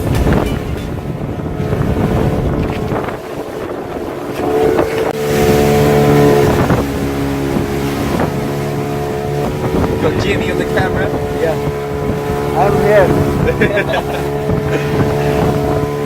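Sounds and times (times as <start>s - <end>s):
motorboat engine humming: 0.0s - 16.0s
wind buffeting microphone: 0.0s - 16.0s.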